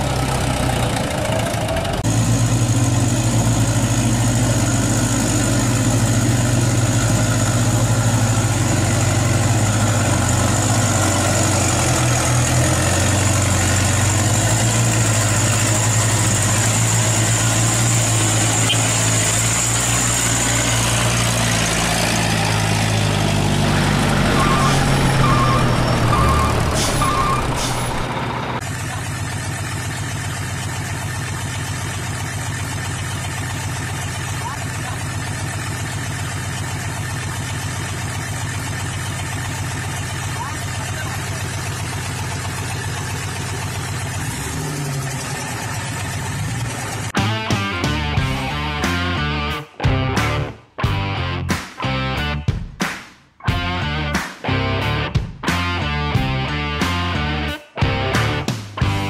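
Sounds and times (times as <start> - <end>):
engine running: 0.0 - 52.4, 53.5 - 59.0.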